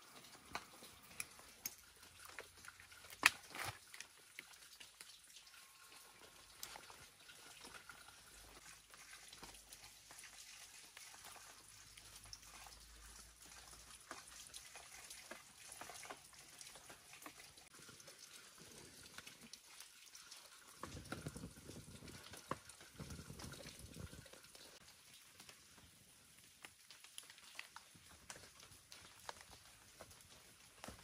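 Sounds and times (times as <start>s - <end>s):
small fire crackling: 0.0s - 31.0s.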